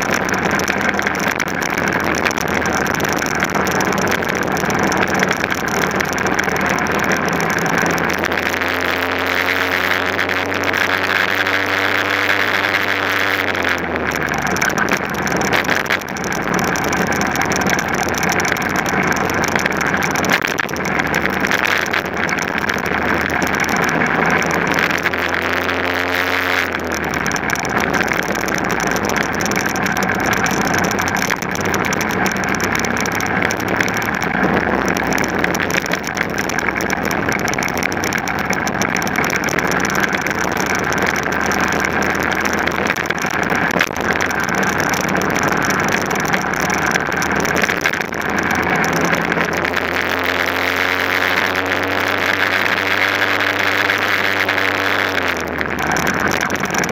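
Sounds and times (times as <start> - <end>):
racing engine running hard: 0.0 - 56.9.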